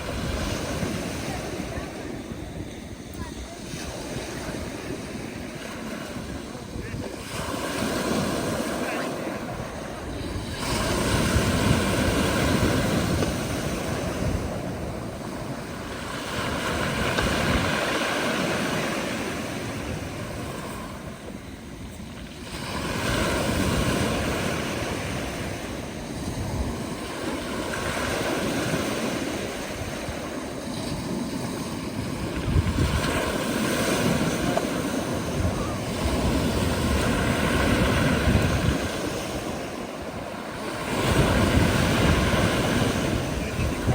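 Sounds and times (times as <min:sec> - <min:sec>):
surf breaking on beach: 0:00.0 - 0:43.9.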